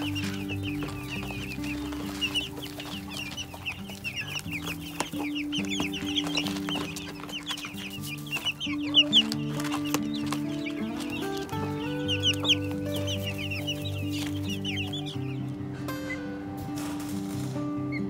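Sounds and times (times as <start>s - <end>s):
chicks peeping: 0.0s - 18.0s
soft background music: 0.0s - 18.0s.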